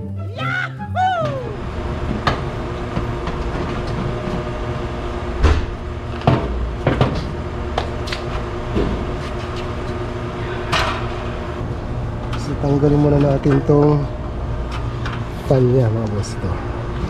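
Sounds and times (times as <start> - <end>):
steady hum: 1.0 - 17.0.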